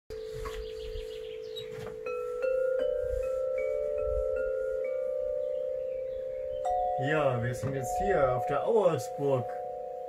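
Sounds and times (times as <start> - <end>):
glass tube instruments ringing: 0.1 - 10.0.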